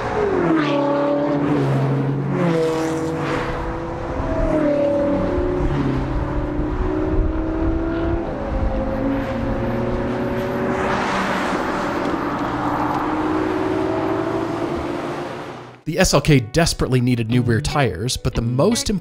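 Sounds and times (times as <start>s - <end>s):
car engines running at speed: 0.0s - 15.8s
wind and tyre rush: 0.0s - 15.8s.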